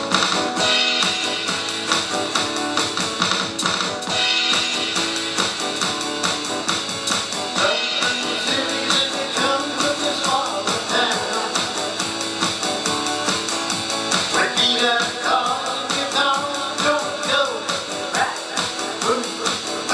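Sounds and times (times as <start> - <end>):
electronic drum kit beat: 0.0 - 19.9
strummed electric guitar: 0.0 - 19.9.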